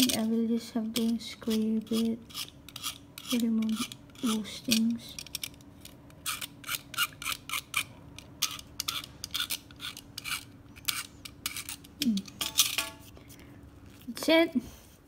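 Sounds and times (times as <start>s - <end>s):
knife blade scraping plastic: 0.9s - 13.1s.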